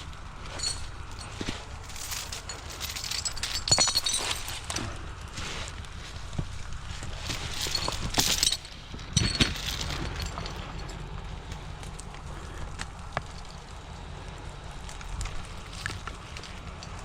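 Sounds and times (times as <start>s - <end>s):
icy snow crunching and cracking: 0.0s - 17.0s
steady low rumble: 0.0s - 17.0s.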